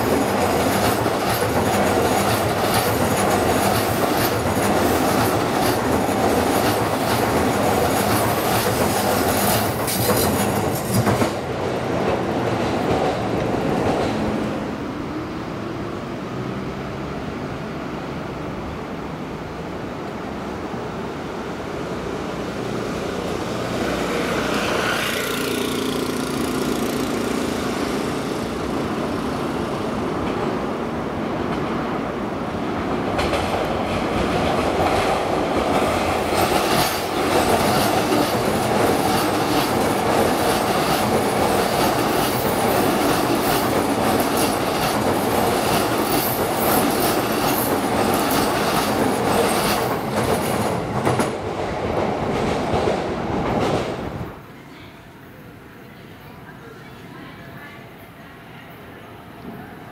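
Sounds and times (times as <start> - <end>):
train hum: 0.0 - 59.9.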